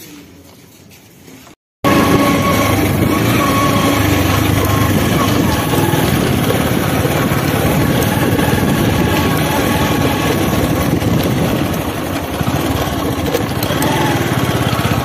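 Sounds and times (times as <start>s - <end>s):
loud rushing ride noise: 1.8s - 15.0s
motorcycle engine running: 1.8s - 15.0s.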